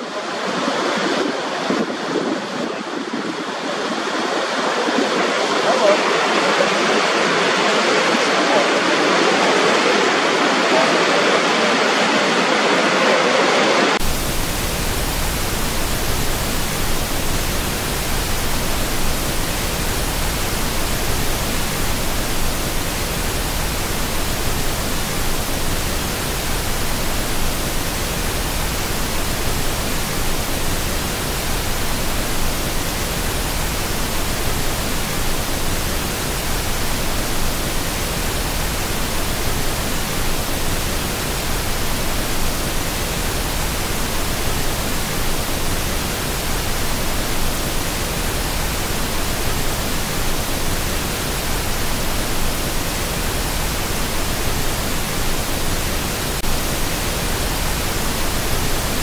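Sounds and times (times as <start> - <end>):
steady broadband hiss: 0.0 - 59.0
waterfall roaring: 0.0 - 59.0.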